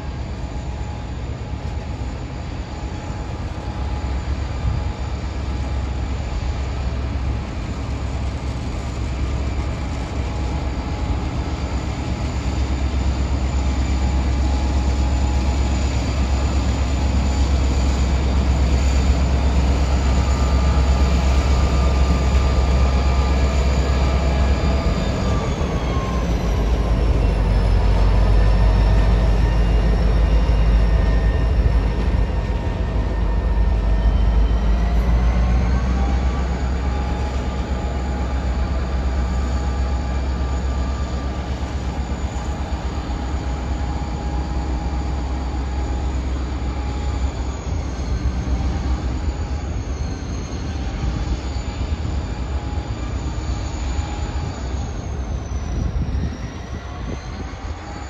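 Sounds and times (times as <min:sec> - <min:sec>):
diesel train passing: 0:00.0 - 0:58.0.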